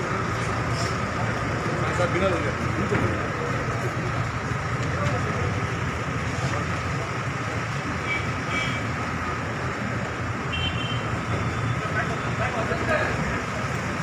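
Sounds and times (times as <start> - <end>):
crowd hubbub: 0.0 - 14.0.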